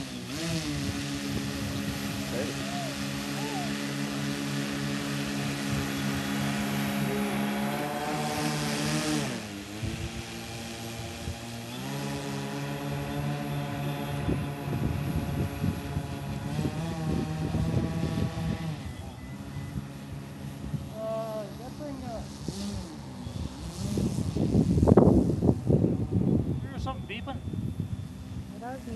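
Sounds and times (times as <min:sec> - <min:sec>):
electric motors spinning propellers: 0:00.0 - 0:28.9.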